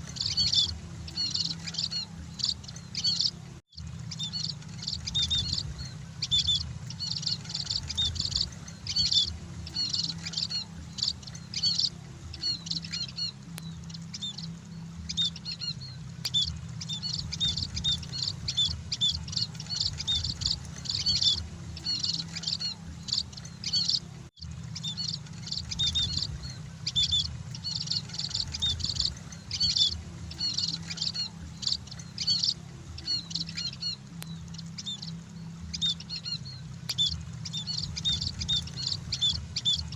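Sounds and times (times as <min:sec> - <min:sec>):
birds chirping: 0:00.0 - 0:39.9
steady low hum: 0:00.0 - 0:39.9.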